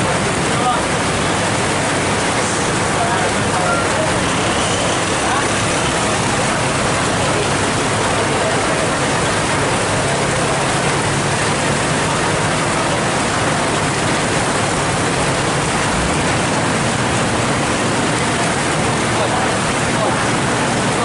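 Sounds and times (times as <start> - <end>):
heavy rain and running water: 0.0 - 21.0
vehicle engines idling: 0.0 - 21.0.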